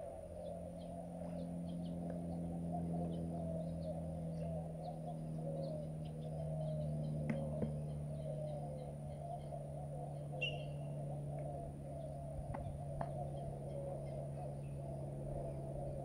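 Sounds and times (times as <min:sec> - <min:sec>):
chorus of calling animals: 0:00.0 - 0:16.0.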